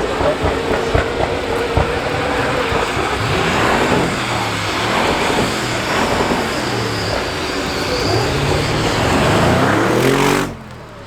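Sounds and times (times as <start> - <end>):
car engine revving: 0.0 - 11.0
car engines running loudly: 0.0 - 11.0.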